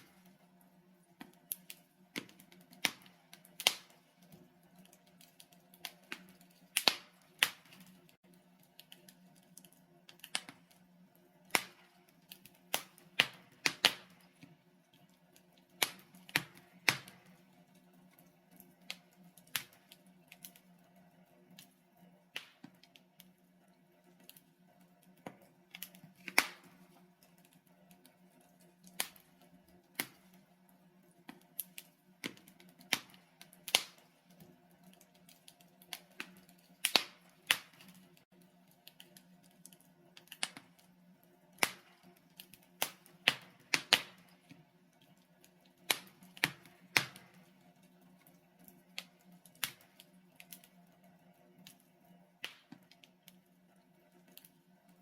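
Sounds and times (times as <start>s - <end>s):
logs crackling in fireplace: 0.0s - 55.0s.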